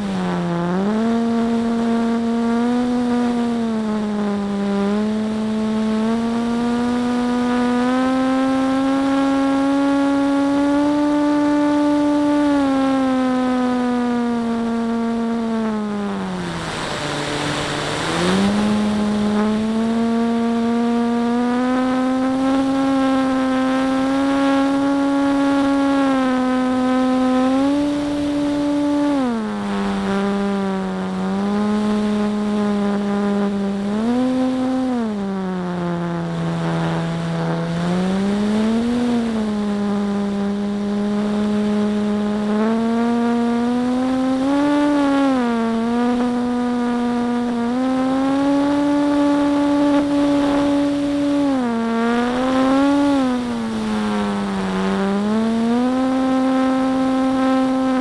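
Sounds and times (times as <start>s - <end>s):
model plane motor droning: 0.0s - 58.0s.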